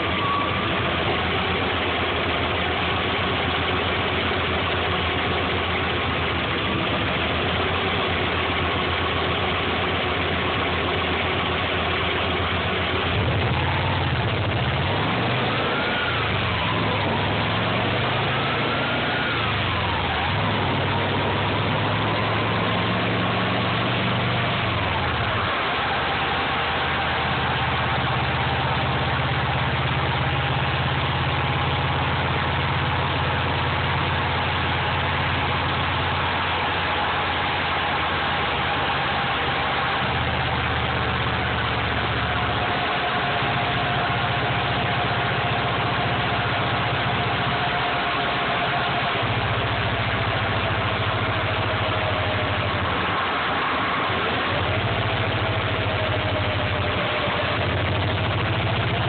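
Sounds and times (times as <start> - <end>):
car engine idling: 0.0 - 59.0
faint whine falling in pitch: 0.0 - 59.0.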